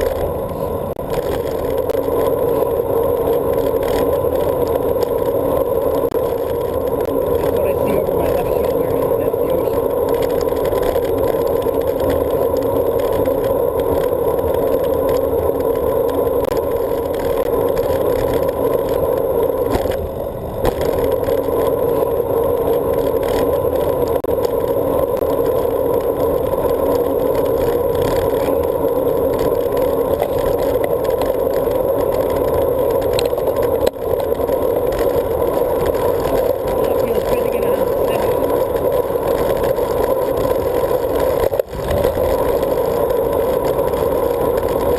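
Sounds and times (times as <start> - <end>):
bicycle road noise: 0.0 - 44.9.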